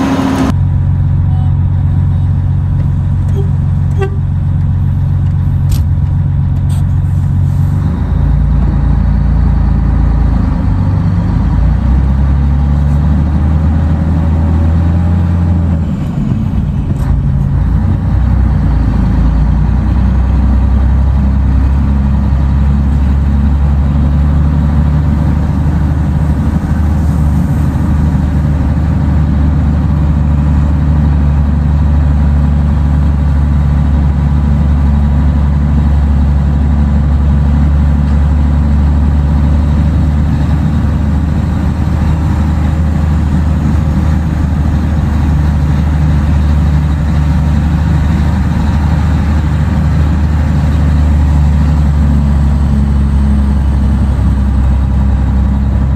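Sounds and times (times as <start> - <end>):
truck diesel engine running: 0.0 - 55.9.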